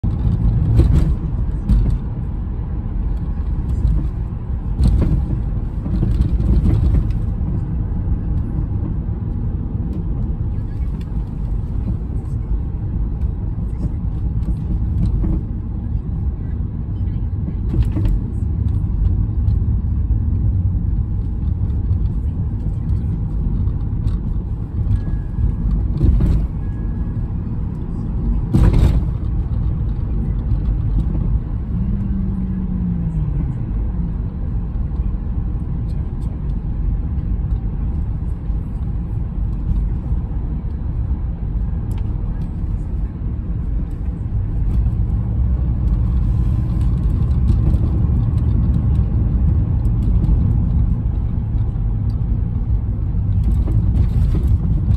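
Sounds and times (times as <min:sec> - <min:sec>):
tyre and engine rumble: 0:00.0 - 0:54.9.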